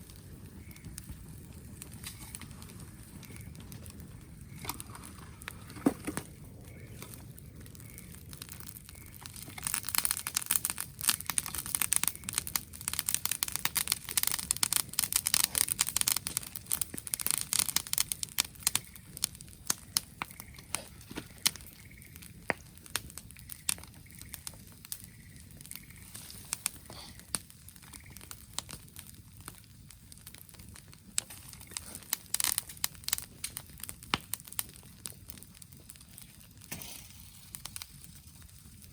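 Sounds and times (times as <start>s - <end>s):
dry material crackling: 1.8s - 34.5s.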